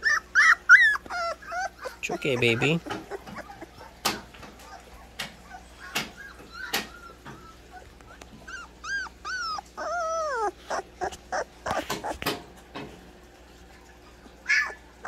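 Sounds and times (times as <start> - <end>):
puppy whimpering: 0.0 - 12.4, 14.0 - 15.0.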